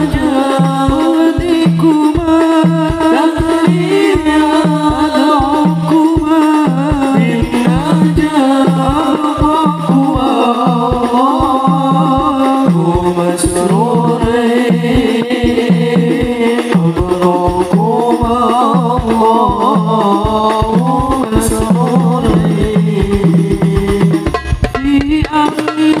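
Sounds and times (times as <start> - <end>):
frame drums beating: 0.0 - 26.0
men singing through microphones: 0.0 - 26.0.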